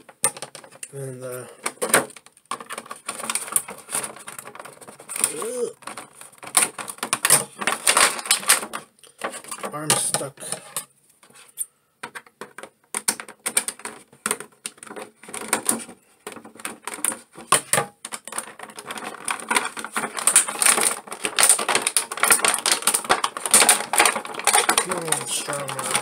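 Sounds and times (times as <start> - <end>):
plastic blister tray crackling: 0.0 - 10.8, 12.0 - 26.0.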